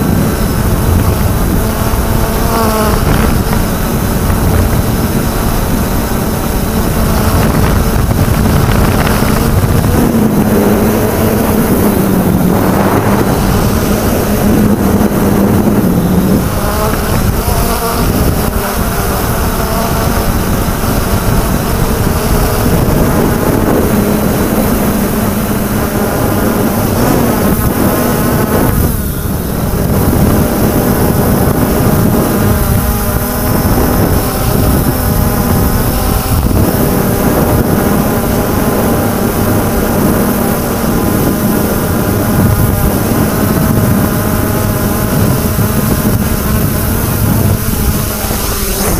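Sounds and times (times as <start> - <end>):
drone propellers buzzing: 0.0 - 48.9
wind rush over microphone: 0.0 - 48.9.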